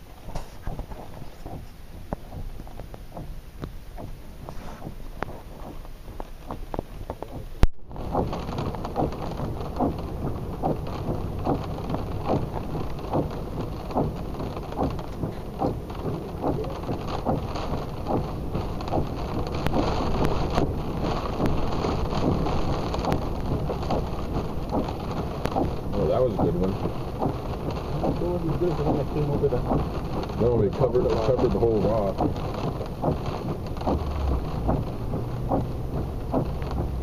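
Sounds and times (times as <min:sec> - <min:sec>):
rain and spray tapping a surface: 0:00.0 - 0:37.0
wind and surf rumble: 0:00.0 - 0:37.0.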